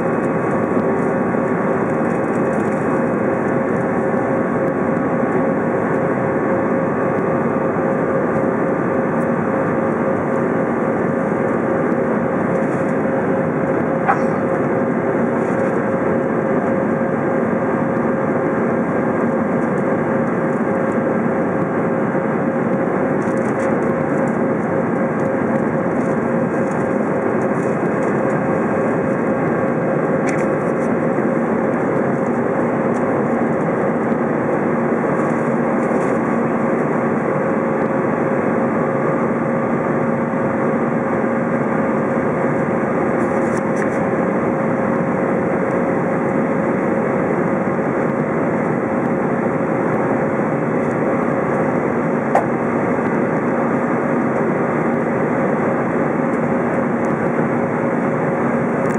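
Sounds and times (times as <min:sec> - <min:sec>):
low engine drone: 0:00.0 - 0:58.9.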